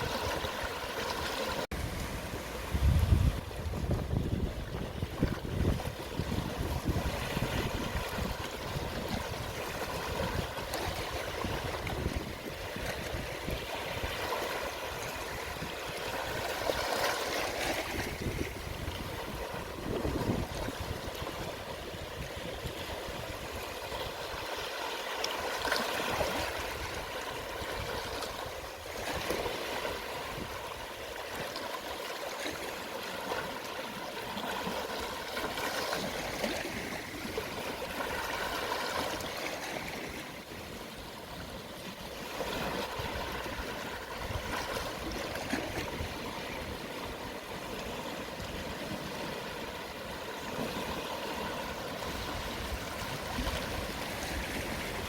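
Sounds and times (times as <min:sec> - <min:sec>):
gentle sea waves washing ashore: 0:00.0 - 0:55.0.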